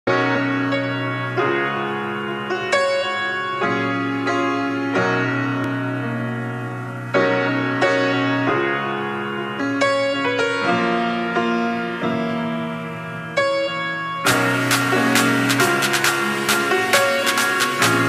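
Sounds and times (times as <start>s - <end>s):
slow melodic background music: 0.1s - 18.0s.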